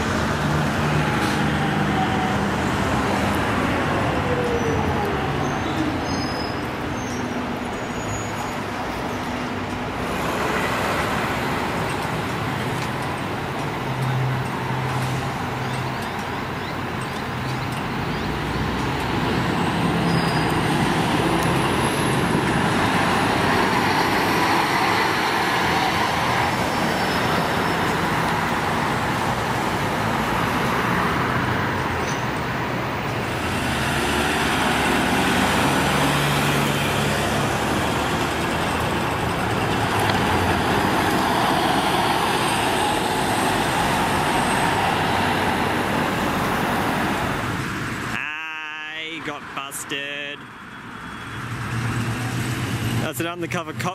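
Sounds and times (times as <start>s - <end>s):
vehicles driving past: 0.0s - 53.9s.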